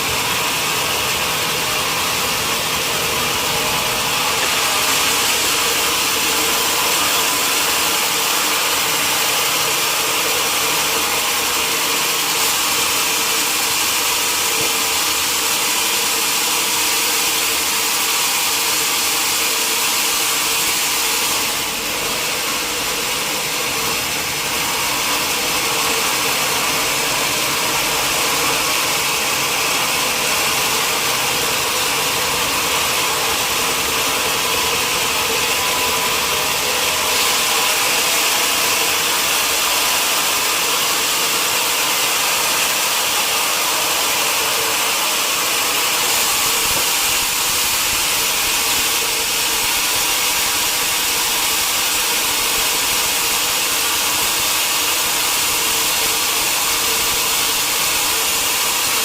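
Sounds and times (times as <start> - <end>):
sawmill machinery hissing: 0.0 - 59.0.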